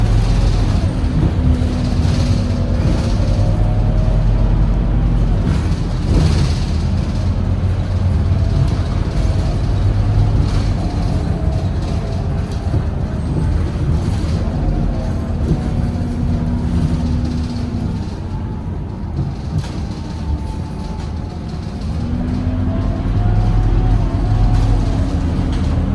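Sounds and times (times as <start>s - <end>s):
bus diesel engine rumble: 0.0s - 25.9s.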